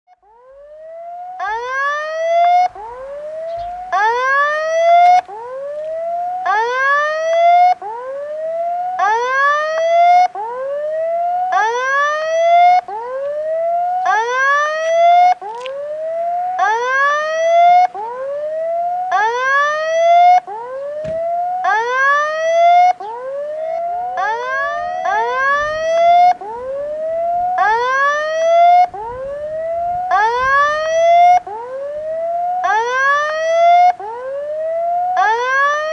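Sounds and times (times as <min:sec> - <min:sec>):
level crossing warning sounder: 0:00.2 - 0:35.9.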